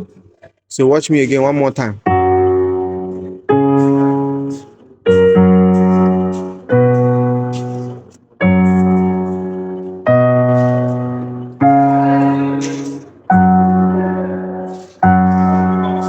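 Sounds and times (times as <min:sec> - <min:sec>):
electronic keyboard piano chords: 0:02.0 - 0:16.0.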